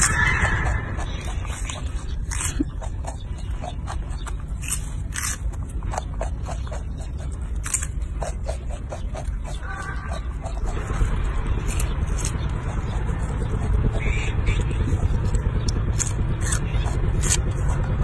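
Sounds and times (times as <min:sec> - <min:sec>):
low rumble: 0:00.0 - 0:18.0
monkey chewing crunchy food: 0:00.0 - 0:18.0.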